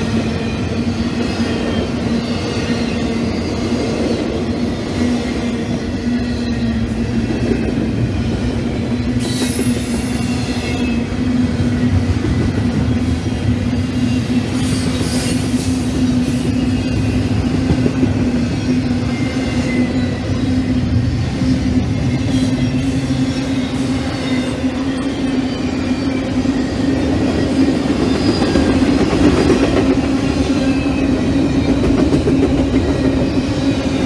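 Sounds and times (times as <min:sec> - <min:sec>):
train wheels rumbling on rail: 0:00.0 - 0:34.0
high wheel squeals: 0:00.3 - 0:34.0.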